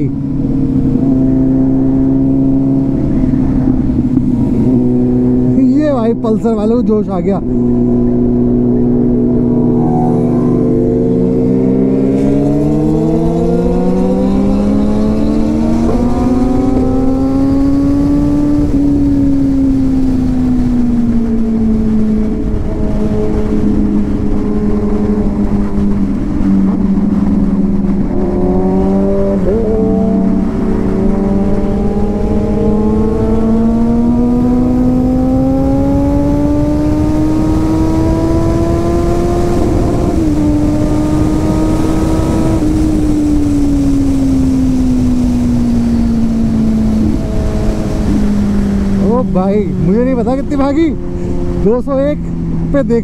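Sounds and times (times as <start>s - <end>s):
motorcycle engine revving: 7.6s - 53.0s
wind noise rushing: 7.9s - 52.8s.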